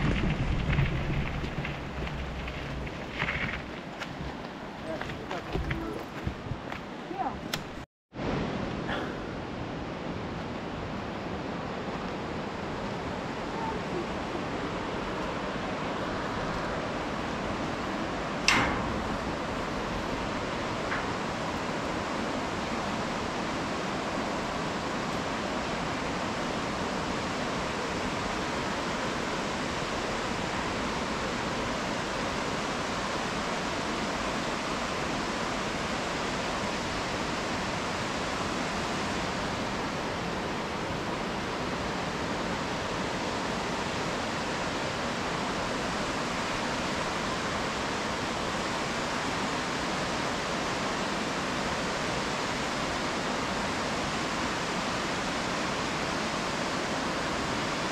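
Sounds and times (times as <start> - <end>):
rushing river water: 0.0 - 57.9.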